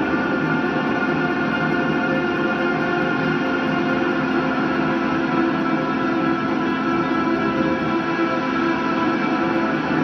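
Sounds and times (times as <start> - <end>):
electric guitar drone: 0.0 - 10.0.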